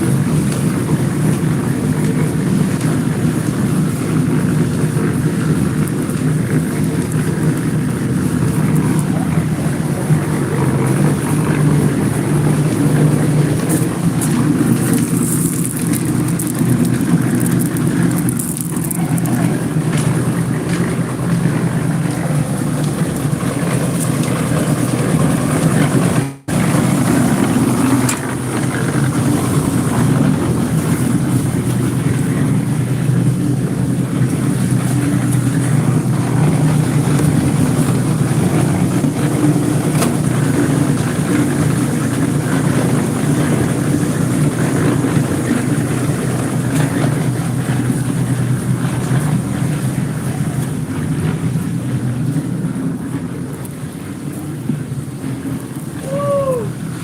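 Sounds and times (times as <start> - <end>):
heavy engine droning: 0.0 - 57.0.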